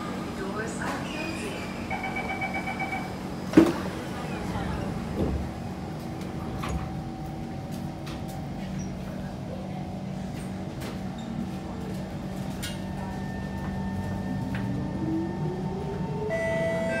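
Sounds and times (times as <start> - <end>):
train equipment humming: 0.0 - 17.0.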